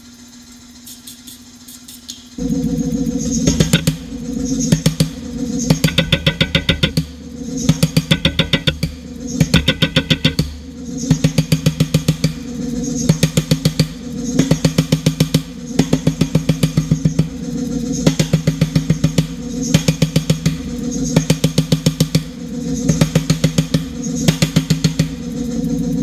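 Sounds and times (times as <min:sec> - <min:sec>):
steady machine hum: 0:00.0 - 0:26.0
power hammer striking hot metal: 0:03.4 - 0:25.3.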